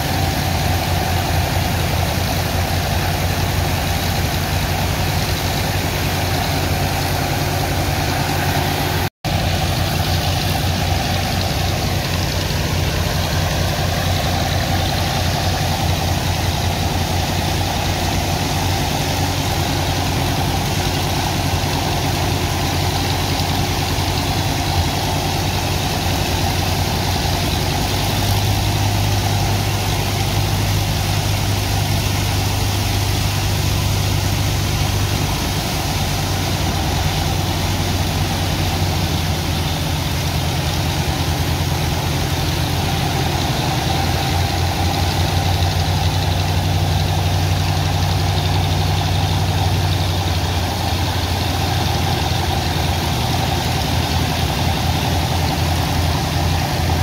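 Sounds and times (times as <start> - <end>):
pump engine pulsing hum: 0.0 - 57.0
water jets hissing into sand: 0.0 - 57.0.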